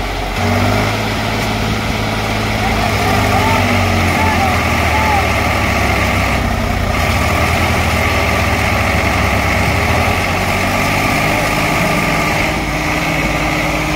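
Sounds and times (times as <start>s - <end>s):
diesel tractor engines under load: 0.0s - 13.9s.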